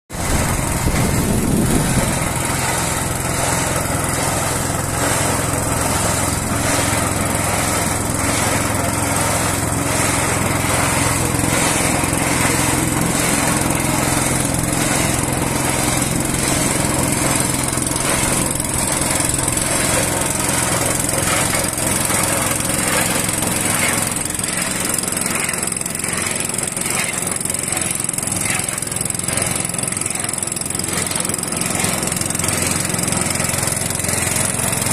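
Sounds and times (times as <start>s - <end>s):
small petrol engine running: 0.1s - 34.9s.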